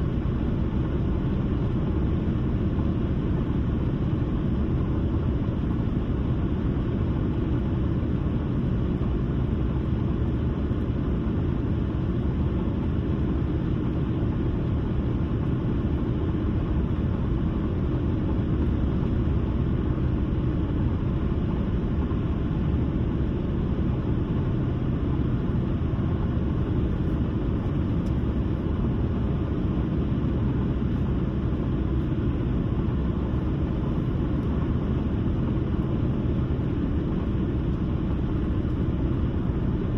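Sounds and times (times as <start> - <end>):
car road noise at highway speed: 0.0 - 39.9.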